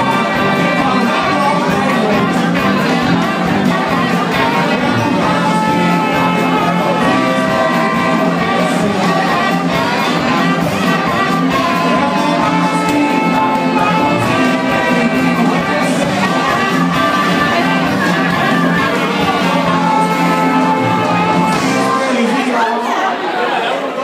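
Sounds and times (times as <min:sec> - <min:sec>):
harmonica lead lines: 0:00.0 - 0:22.2
blues band playing: 0:00.0 - 0:23.0.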